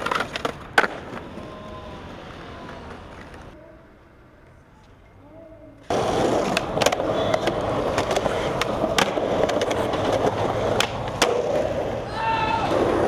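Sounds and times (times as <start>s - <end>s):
skateboard wheels on asphalt: 0.0s - 13.0s.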